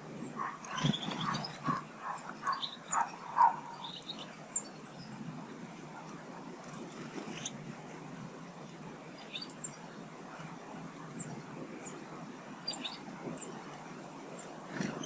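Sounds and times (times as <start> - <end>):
steady low background noise: 0.0 - 15.0
small birds chirping: 0.2 - 7.6, 9.0 - 10.0, 11.1 - 15.0.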